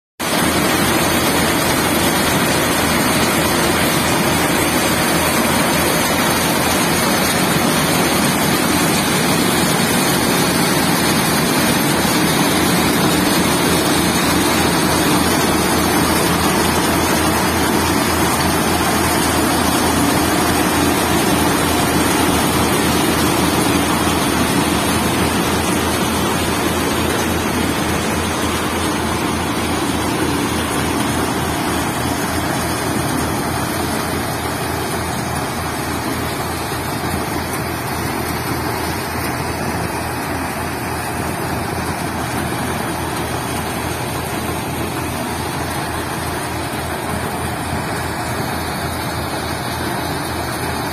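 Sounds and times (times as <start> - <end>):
tractor engine: 0.2 - 50.9
grain pouring: 0.3 - 50.9
thresher mechanical din: 0.3 - 50.9.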